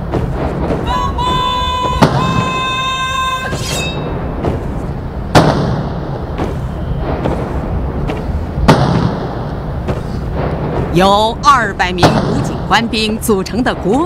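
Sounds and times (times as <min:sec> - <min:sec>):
salute guns booming: 0:00.0 - 0:13.1
steady low rumble: 0:00.0 - 0:14.0.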